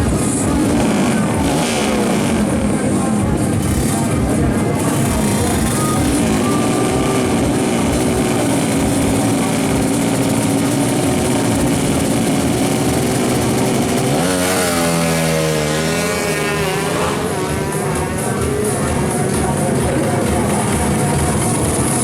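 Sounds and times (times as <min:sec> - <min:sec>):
motorcycle engine revving: 0:00.0 - 0:22.0
motorcycle engines running rough: 0:00.0 - 0:22.0.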